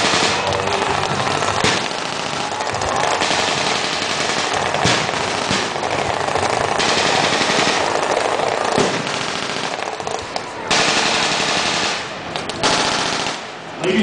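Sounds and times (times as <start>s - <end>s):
automatic gunfire: 0.0s - 13.6s.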